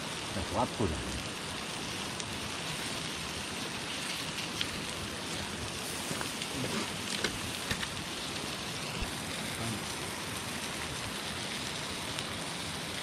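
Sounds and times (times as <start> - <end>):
campfire crackling and hissing: 0.0 - 13.0
fire popping: 0.0 - 13.0.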